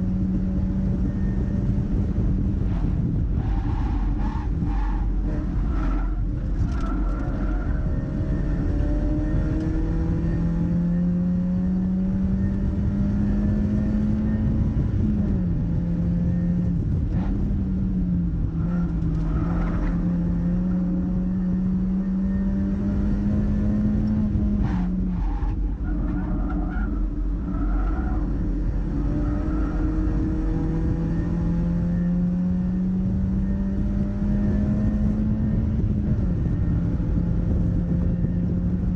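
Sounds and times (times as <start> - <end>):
car engine running hard: 0.0 - 38.9
wind and road noise: 0.0 - 38.9.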